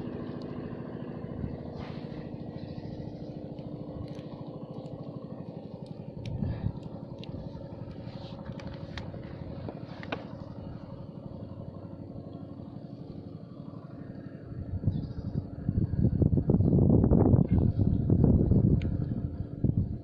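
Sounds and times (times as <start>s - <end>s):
small boat engine puttering: 0.0s - 16.7s, 17.3s - 20.0s.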